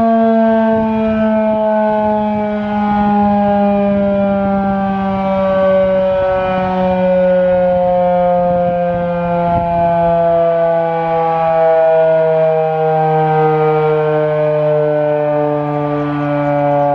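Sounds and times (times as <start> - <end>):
rotating warning siren: 0.0 - 16.9.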